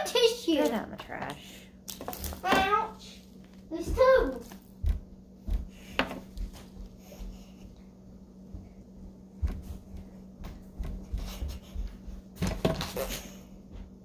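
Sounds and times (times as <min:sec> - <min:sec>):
low hum: 0:01.2 - 0:14.0.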